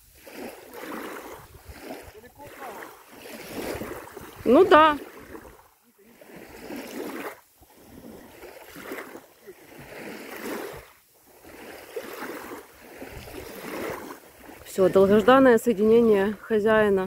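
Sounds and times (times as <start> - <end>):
waves lapping at shore: 0.0 - 17.0.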